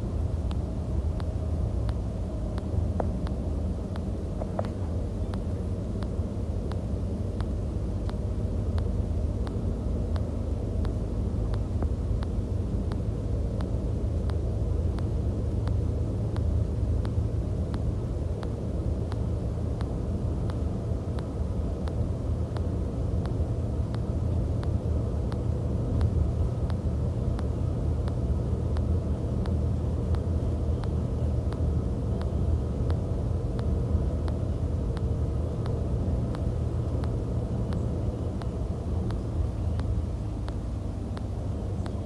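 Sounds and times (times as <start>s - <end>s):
faint ticks: 0.1s - 42.0s.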